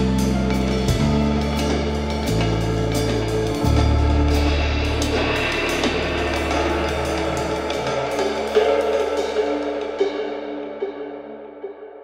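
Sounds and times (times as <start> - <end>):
sustained bass notes: 0.0 - 10.0
drum kit: 0.0 - 10.3.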